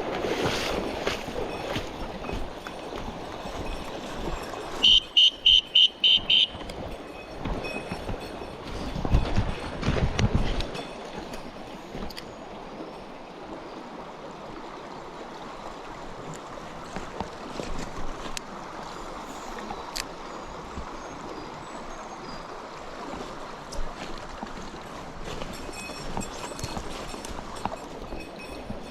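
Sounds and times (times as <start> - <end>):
stream running over stones: 0.0 - 28.9.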